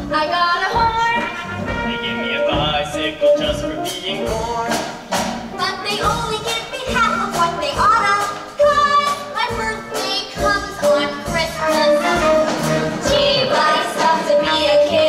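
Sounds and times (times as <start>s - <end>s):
backing track with steady beat: 0.0s - 15.0s
young performers singing: 0.0s - 15.0s.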